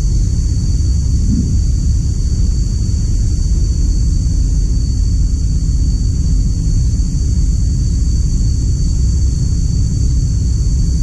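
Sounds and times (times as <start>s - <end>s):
steady loud rumble: 0.0s - 11.0s.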